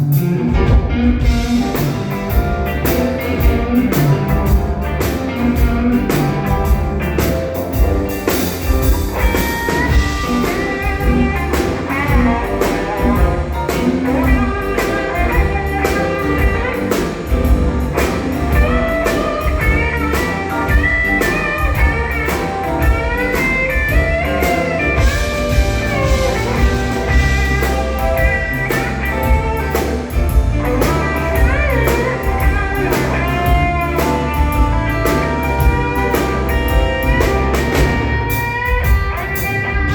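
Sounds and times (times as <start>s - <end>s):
blues-rock band playing: 0.0s - 39.9s
lead guitar bending notes: 0.0s - 39.9s
steady drum beat: 0.0s - 39.9s.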